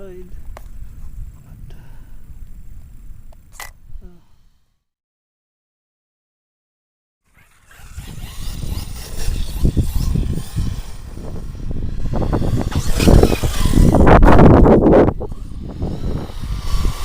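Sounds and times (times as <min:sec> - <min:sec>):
rc truck motor and tyres surging: 0:00.0 - 0:04.9, 0:07.2 - 0:17.0.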